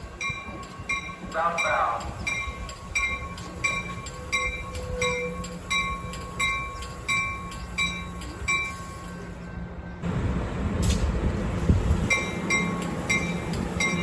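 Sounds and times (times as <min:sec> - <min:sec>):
train bell ringing: 0:00.0 - 0:09.6, 0:12.0 - 0:14.0
train engine rumble: 0:00.0 - 0:14.0.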